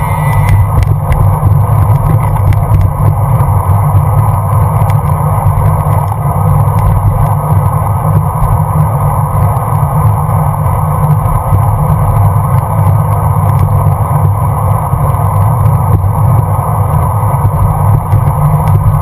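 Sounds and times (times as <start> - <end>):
bicycle tyre and road noise: 0.0 - 19.0
wind rushing over microphone: 0.0 - 19.0.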